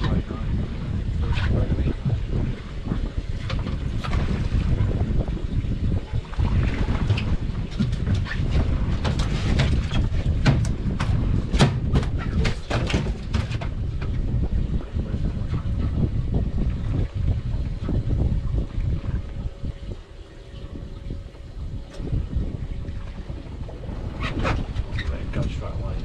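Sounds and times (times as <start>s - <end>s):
water noise around boat: 0.0s - 26.0s
wind buffeting microphone: 0.0s - 26.0s.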